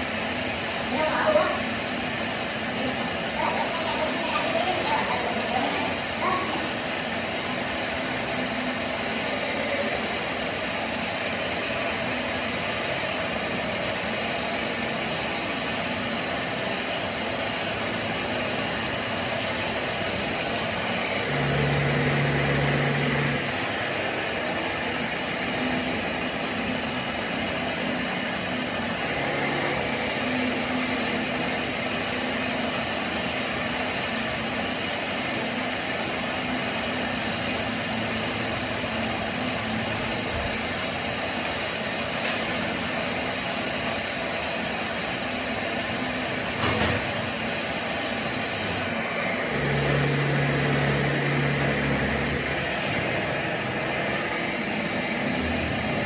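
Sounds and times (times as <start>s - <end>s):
workshop machinery whirring: 0.0s - 56.0s.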